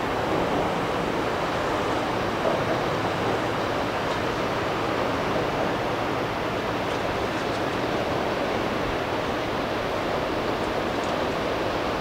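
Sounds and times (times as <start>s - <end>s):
river water rushing: 0.0s - 12.0s
wind: 0.0s - 12.0s.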